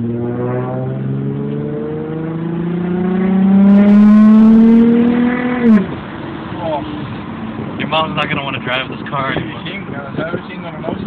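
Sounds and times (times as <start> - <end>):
car engine accelerating: 0.0 - 9.1.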